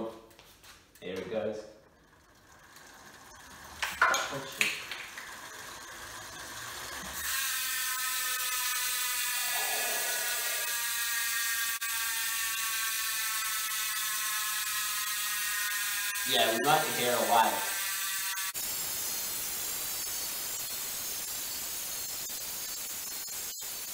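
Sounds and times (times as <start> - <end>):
bicycle freehub ticking: 1.8 - 23.9.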